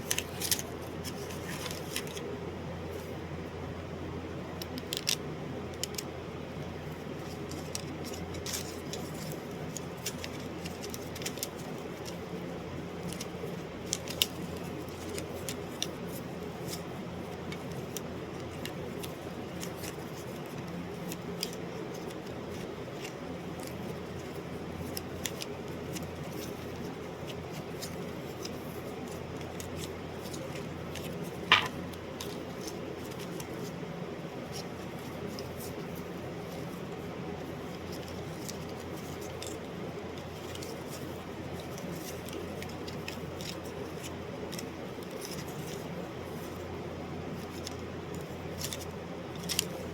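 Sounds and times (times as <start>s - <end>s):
low room hum: 0.0s - 49.9s.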